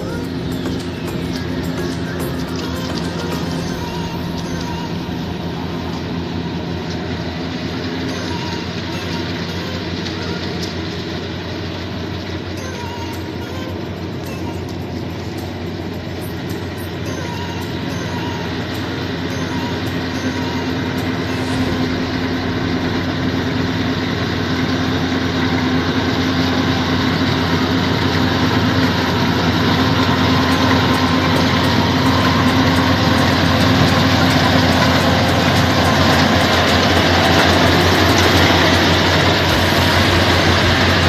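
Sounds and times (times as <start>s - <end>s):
combine harvester running: 0.0s - 41.0s.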